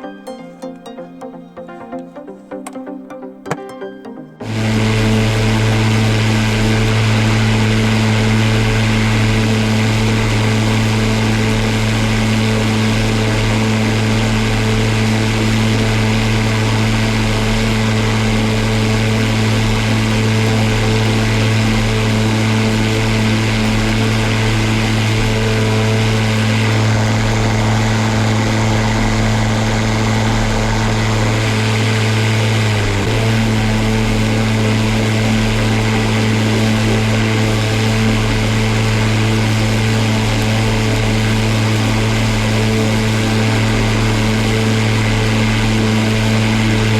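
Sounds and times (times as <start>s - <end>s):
electric lawn mower humming: 4.4s - 46.9s.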